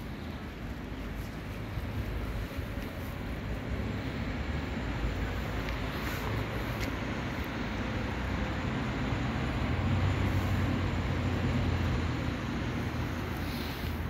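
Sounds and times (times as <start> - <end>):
city traffic rumble: 0.0 - 14.0
vehicle passing: 0.0 - 14.0.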